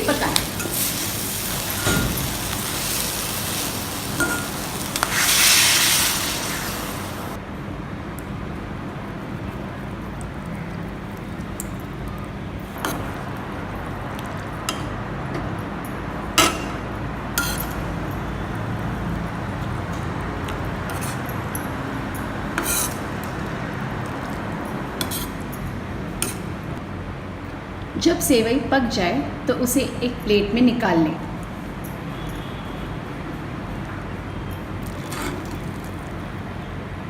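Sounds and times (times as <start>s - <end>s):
low background noise: 0.0s - 37.0s.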